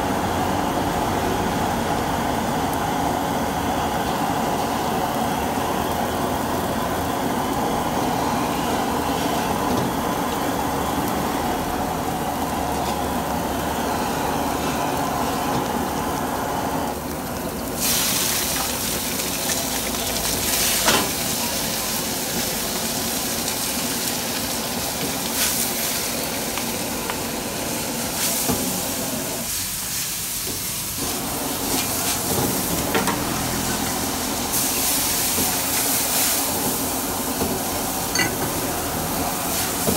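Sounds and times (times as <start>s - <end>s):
food frying in a wok: 0.0s - 39.9s
gas burner rushing: 0.0s - 39.9s
loud sizzling hiss: 0.0s - 39.9s.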